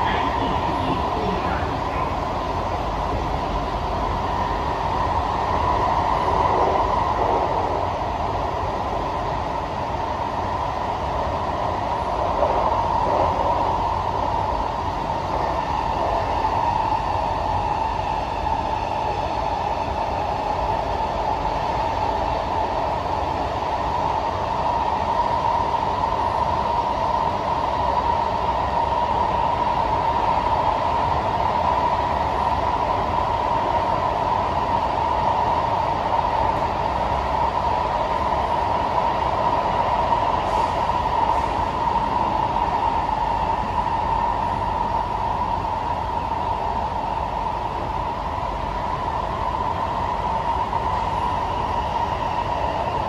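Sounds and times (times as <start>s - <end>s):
train rumble and rail noise: 0.0s - 53.0s.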